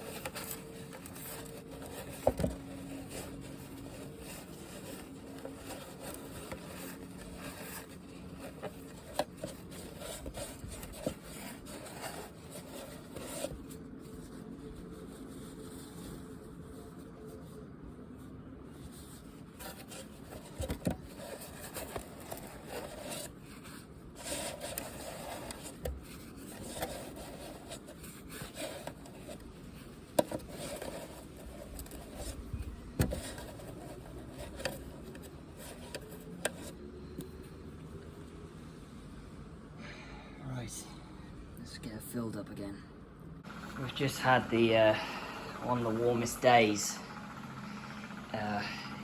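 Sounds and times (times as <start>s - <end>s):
bird feeder rubbing and scraping: 0.0s - 17.4s, 18.8s - 36.8s, 43.4s - 49.0s.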